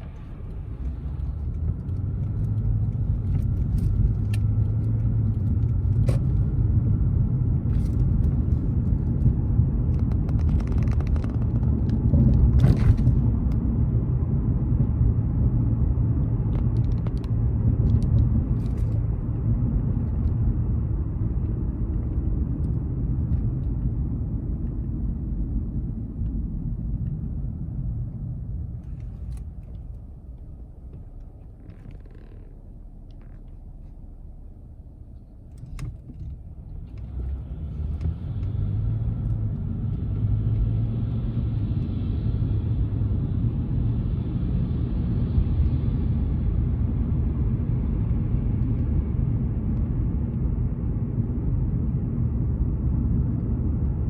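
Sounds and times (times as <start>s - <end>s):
car interior road and engine rumble: 0.0s - 54.0s.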